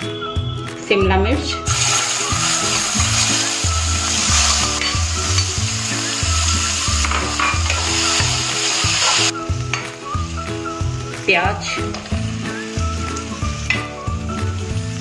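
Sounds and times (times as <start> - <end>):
vegetables sizzling in hot oil: 1.6 - 15.0.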